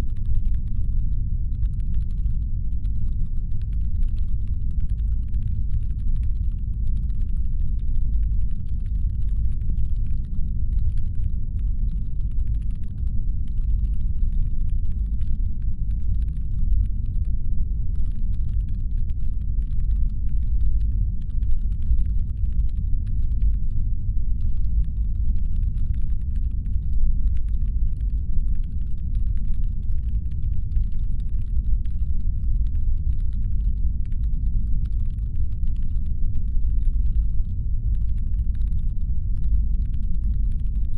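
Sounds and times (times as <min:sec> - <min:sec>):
faint crackle of tiny clicks: 0:00.0 - 0:17.4, 0:18.0 - 0:40.9
deep engine hum rumble: 0:00.0 - 0:40.9.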